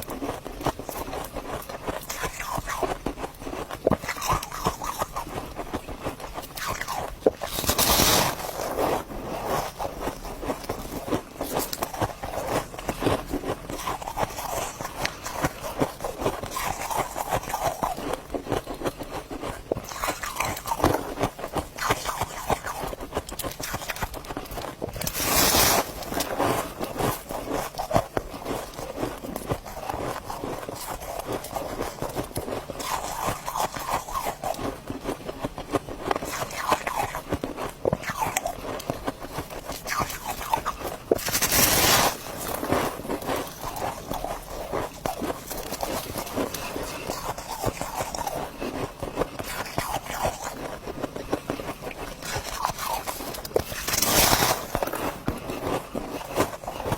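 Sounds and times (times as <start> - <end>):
ice crunching: 3.6 - 35.4, 36.1 - 56.9.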